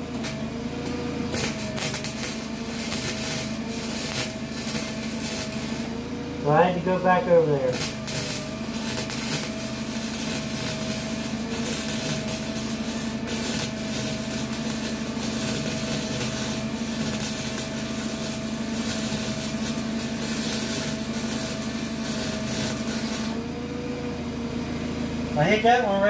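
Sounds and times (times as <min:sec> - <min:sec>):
arc welder crackling sizzle: 0:00.0 - 0:26.0
welder hum: 0:00.0 - 0:26.0.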